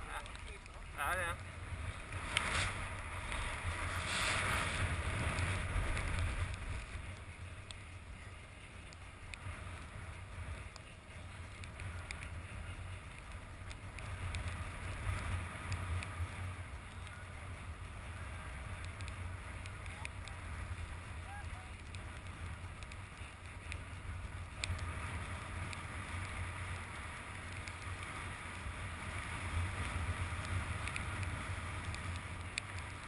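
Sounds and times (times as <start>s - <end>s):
skis scraping over snow: 0.0s - 33.0s
wind rumbling on microphone: 0.0s - 33.0s.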